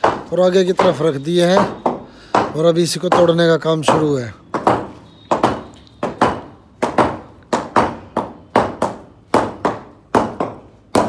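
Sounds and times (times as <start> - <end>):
hammers chipping cement floor: 0.0 - 11.0.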